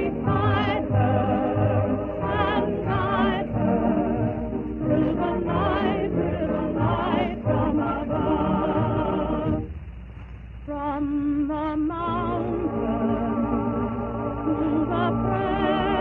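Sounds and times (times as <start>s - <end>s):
operatic choral singing: 0.0s - 9.7s, 10.8s - 16.0s.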